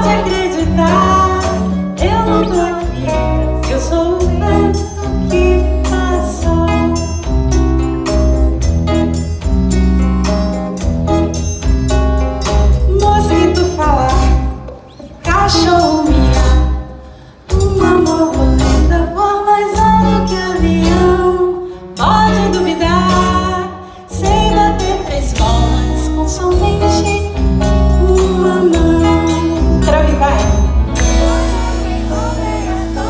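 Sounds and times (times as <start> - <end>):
live rock band: 0.0 - 33.0.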